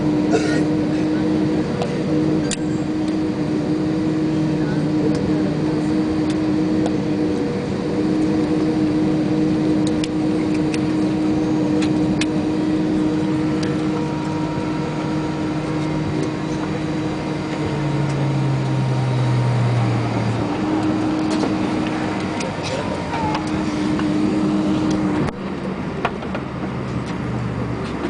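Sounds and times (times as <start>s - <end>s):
aircraft cabin droning hum: 0.0s - 28.0s
lower hum: 0.0s - 28.0s.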